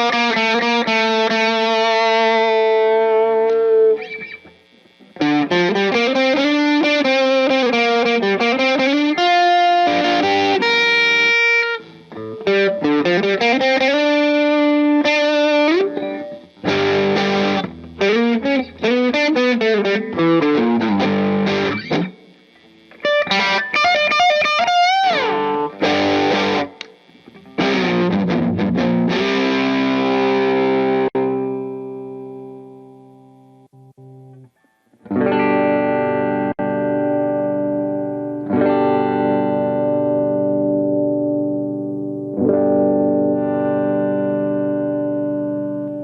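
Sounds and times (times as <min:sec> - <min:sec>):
electric guitar through amplifier: 0:00.0 - 0:46.0.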